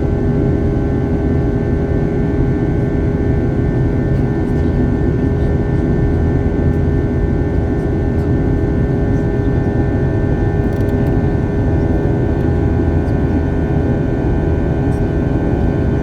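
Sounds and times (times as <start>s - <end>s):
constant whine: 0.0s - 16.0s
jet engine roar in cabin: 0.0s - 16.0s.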